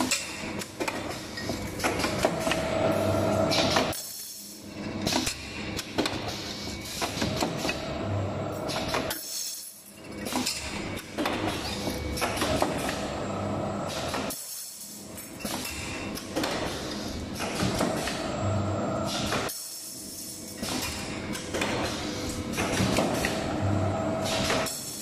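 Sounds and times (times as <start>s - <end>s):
machine mechanical clatter: 0.0s - 7.9s, 8.5s - 13.2s, 13.8s - 25.0s.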